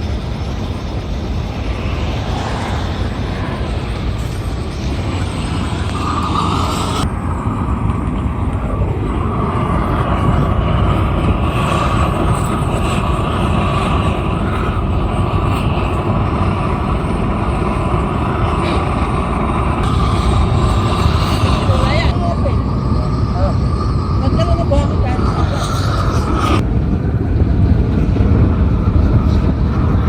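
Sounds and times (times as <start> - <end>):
motor whining and rumbling: 0.0 - 30.0.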